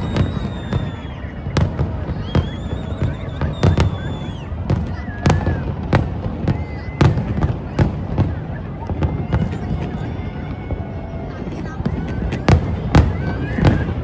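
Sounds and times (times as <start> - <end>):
firework bangs: 0.0 - 14.0
firework whistles: 0.0 - 14.0.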